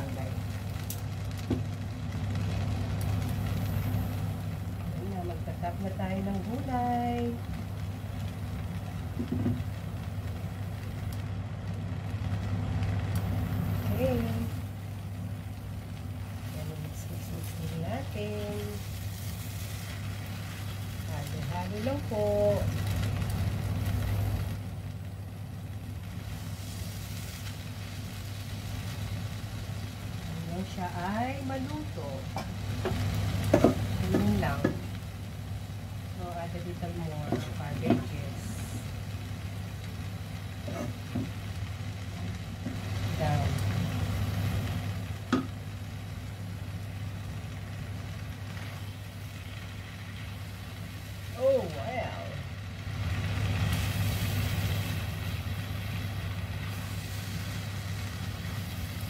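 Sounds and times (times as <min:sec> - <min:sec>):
low mechanical hum: 0:00.0 - 0:59.0
noodles sizzling in a wok: 0:00.0 - 0:59.0.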